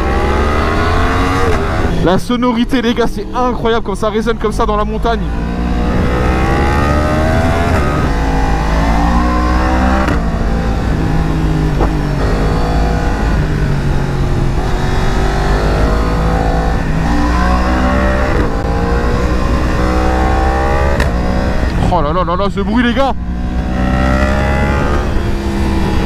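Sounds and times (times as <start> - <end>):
motorcycle engine revving: 0.0 - 2.1, 4.4 - 26.0.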